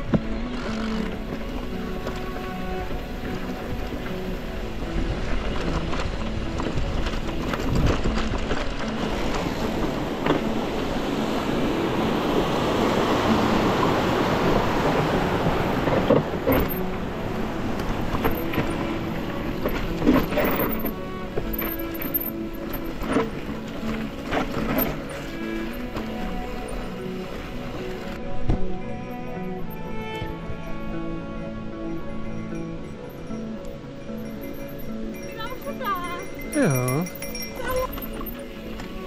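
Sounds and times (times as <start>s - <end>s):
bike rolling noise: 0.0s - 36.4s.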